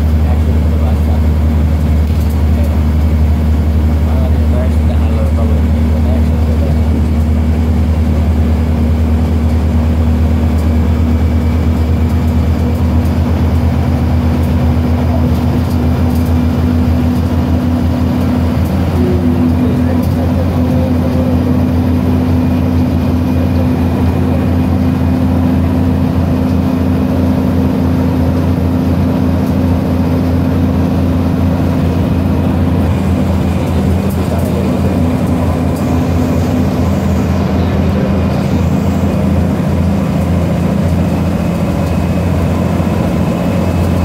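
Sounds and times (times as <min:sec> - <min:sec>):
bus engine and road hum: 0:00.0 - 0:44.0.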